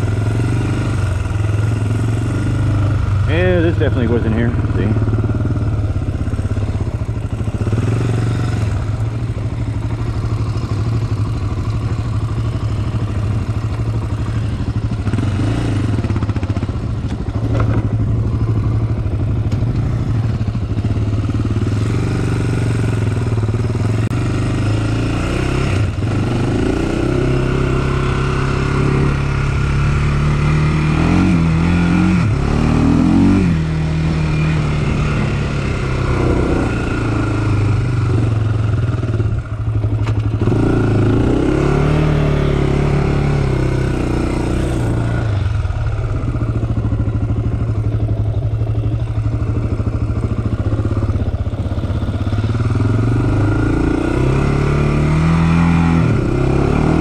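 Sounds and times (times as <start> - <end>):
quad engine running: 0.0 - 57.0.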